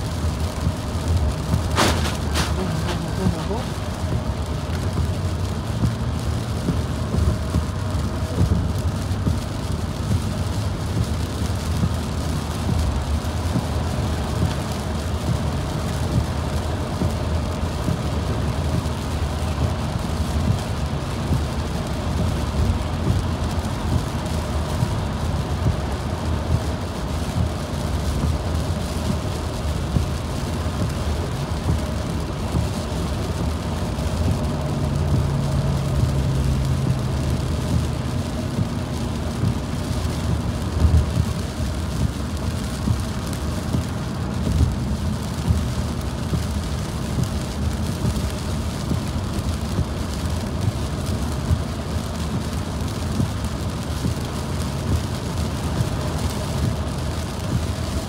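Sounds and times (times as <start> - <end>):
car engine hum: 0.0 - 58.0
rain falling: 0.0 - 58.0
tyre hiss on wet road: 0.0 - 58.0.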